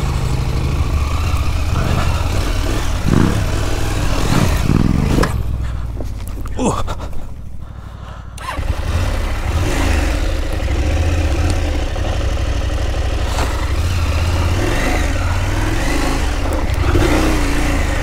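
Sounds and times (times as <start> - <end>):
motorcycle engine running: 0.0 - 7.0, 8.4 - 18.0.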